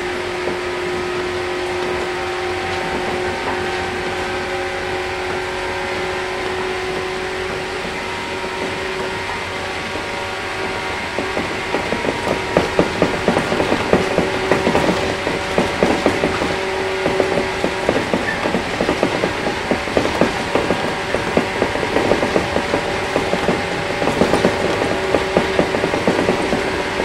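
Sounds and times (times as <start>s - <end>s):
train traction motor hum: 0.0s - 27.0s
train wheels rattling: 0.0s - 27.0s.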